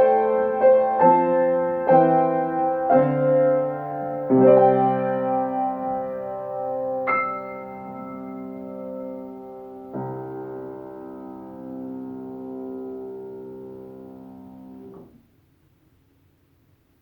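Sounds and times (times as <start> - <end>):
piano chords: 0.0 - 15.2.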